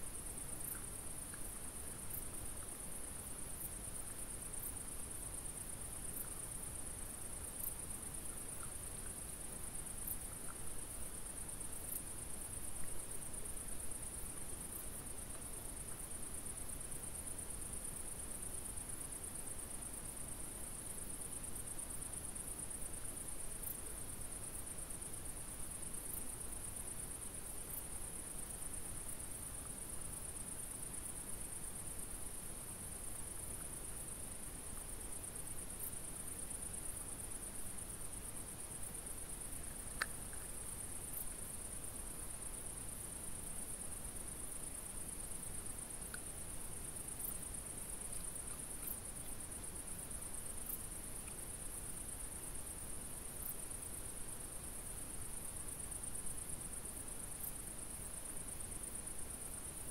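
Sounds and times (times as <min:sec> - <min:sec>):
crickets chirring: 0:00.0 - 0:59.9
faint hiss: 0:00.0 - 0:59.9.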